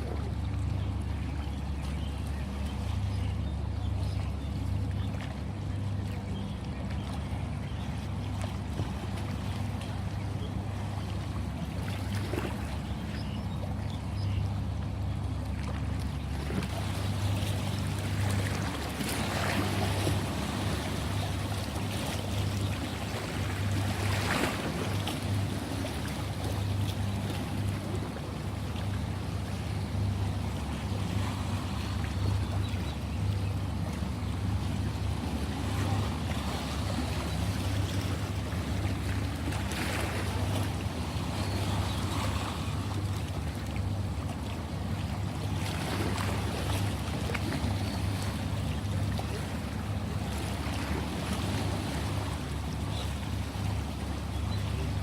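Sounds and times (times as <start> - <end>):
ocean waves surf: 0.0 - 55.0
steady low hum: 0.0 - 55.0.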